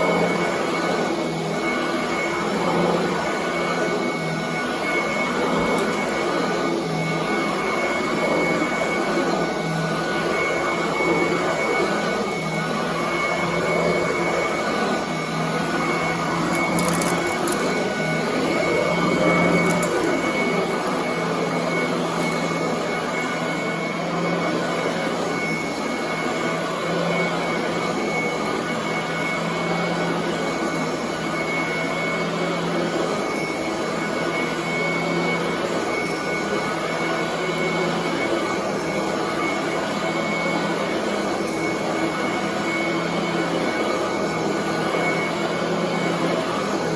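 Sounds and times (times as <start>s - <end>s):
vacuum cleaner running on carpet: 0.0s - 46.9s.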